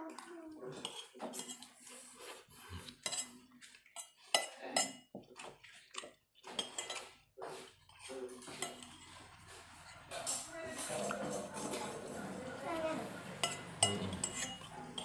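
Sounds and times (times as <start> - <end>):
metal spoon scraping a plate: 0.8 - 5.0, 5.9 - 15.0.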